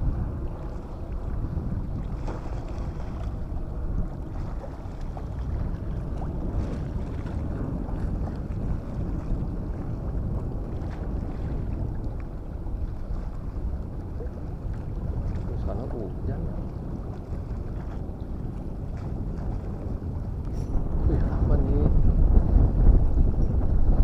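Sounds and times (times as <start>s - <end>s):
choppy waves washing: 0.0s - 24.0s
wind buffeting microphone: 0.0s - 24.0s.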